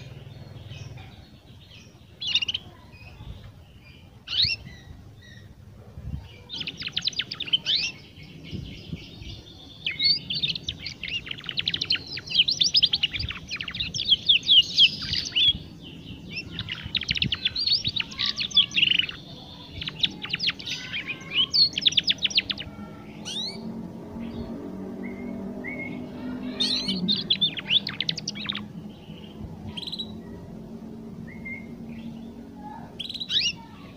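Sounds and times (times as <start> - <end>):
canary twittering: 3.9 - 5.6, 6.2 - 8.4, 9.7 - 30.4, 31.2 - 33.9.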